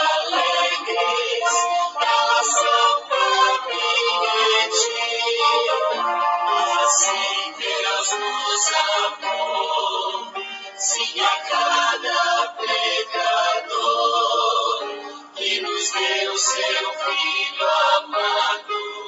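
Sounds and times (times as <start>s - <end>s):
hymn singing with instruments: 0.0s - 19.0s.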